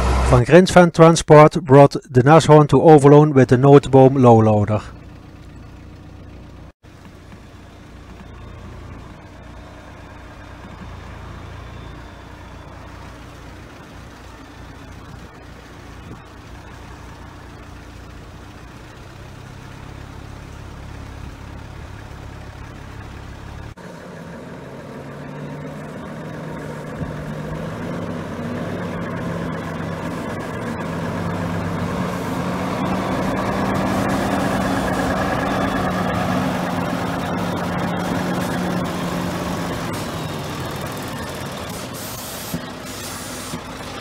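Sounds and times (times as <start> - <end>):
car engine and road noise: 0.0 - 1.4, 2.5 - 44.0
truck diesel engine: 0.0 - 44.0.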